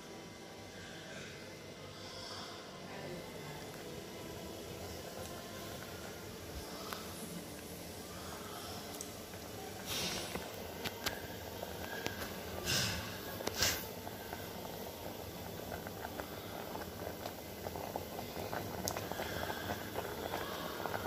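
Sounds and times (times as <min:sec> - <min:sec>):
water boiling under flour: 0:00.0 - 0:21.0.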